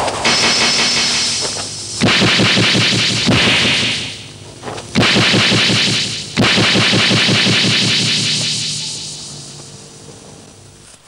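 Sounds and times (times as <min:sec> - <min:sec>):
rapid sharp hits: 0:00.0 - 0:09.5
bright hiss: 0:00.0 - 0:10.1.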